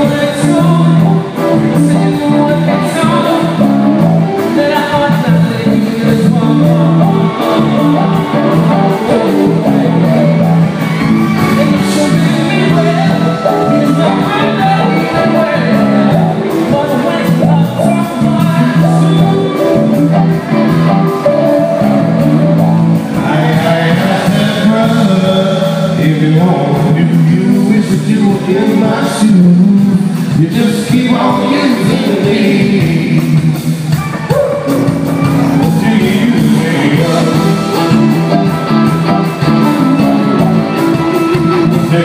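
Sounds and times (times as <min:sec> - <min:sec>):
man singing into a microphone: 0:00.0 - 0:10.6, 0:11.3 - 0:22.2, 0:23.2 - 0:34.7, 0:35.6 - 0:39.4, 0:41.4 - 0:42.0
live band playing: 0:00.0 - 0:42.0.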